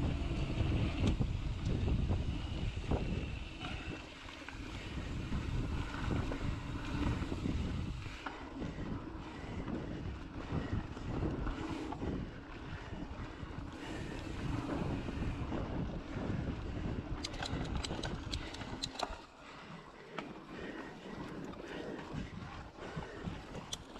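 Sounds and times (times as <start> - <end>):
wind noise on microphone: 0.0 - 19.2, 21.2 - 23.9
bike clicks and rattles: 0.0 - 23.9.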